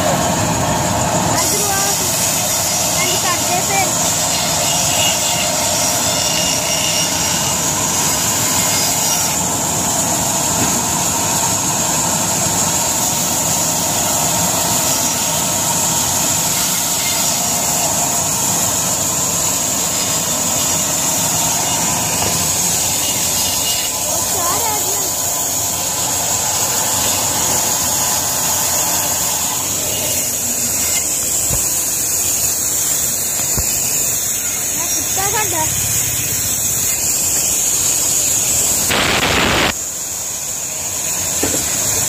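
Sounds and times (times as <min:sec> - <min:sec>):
band saw cutting logs: 0:00.0 - 0:42.0.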